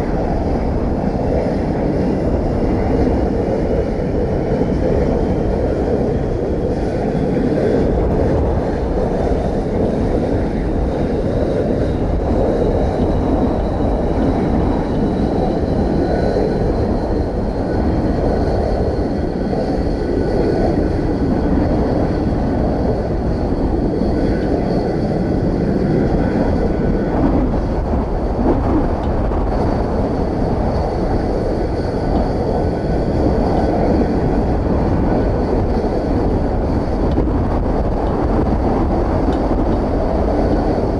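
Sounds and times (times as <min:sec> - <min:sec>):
jet engines running with whine: 0:00.0 - 0:40.9
wind buffeting microphone: 0:00.0 - 0:40.9.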